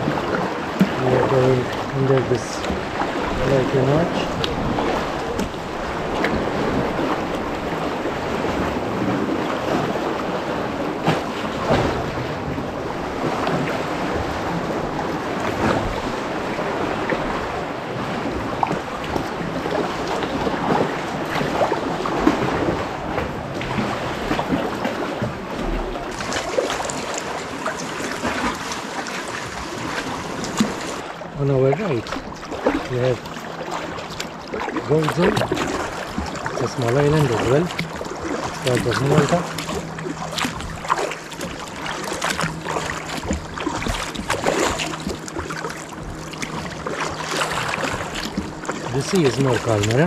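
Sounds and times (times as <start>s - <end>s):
paddle stroke splashes: 0.0s - 50.0s
water splashing around kayak: 0.0s - 50.0s.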